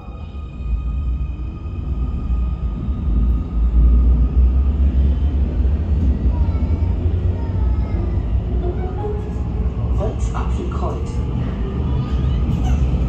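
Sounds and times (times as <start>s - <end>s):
faint train whine: 0.0s - 13.0s
train wheels rumbling on rails: 0.0s - 13.0s.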